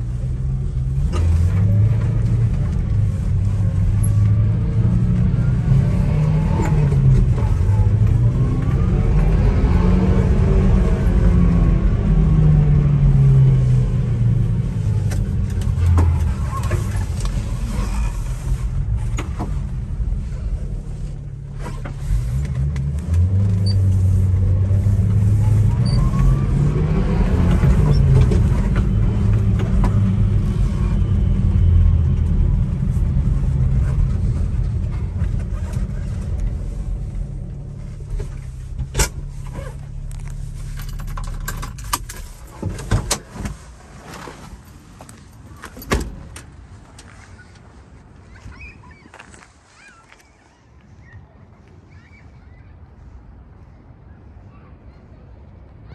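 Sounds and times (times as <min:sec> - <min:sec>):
truck engine while driving: 0:00.0 - 0:49.8.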